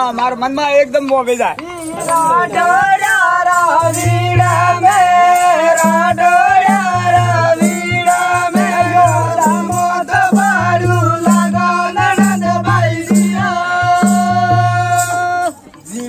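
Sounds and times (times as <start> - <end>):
steady low drum beat: 0.0 - 15.6
rattling percussion: 0.0 - 16.0.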